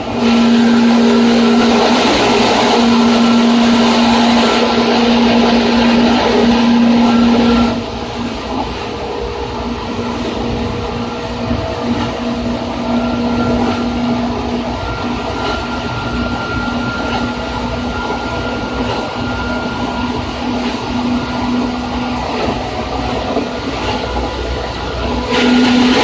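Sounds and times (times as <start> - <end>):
steady train motor hum: 0.0 - 26.0
wheels rumbling on rail: 0.0 - 26.0.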